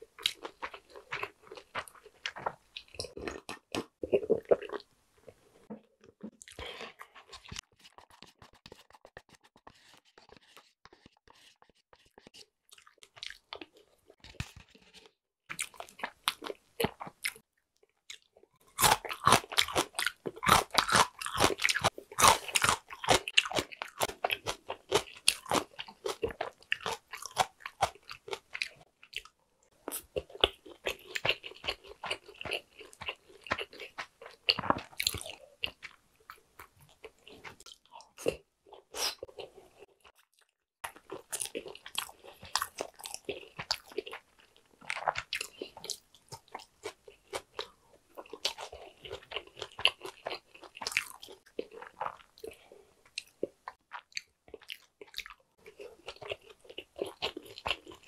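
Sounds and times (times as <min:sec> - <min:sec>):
close-up chewing and crunching: 0:00.0 - 0:08.9, 0:09.8 - 0:58.0.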